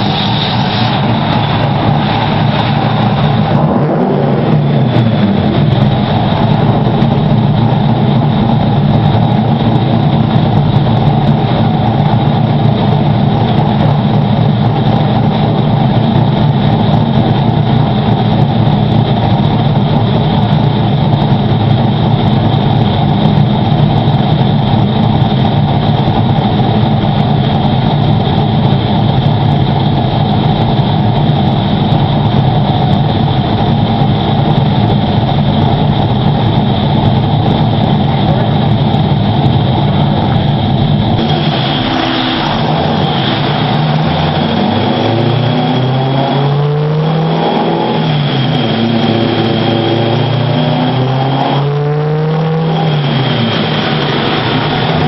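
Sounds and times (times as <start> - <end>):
car engine running steadily: 0.0 - 55.0.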